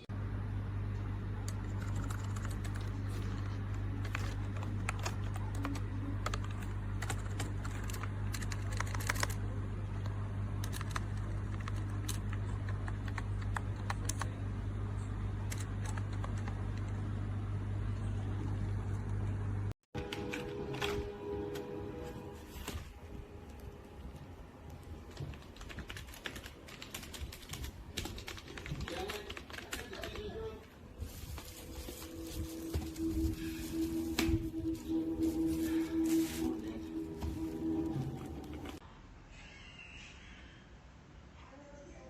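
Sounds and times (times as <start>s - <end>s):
steady low hum: 0.0s - 29.8s, 30.6s - 38.8s.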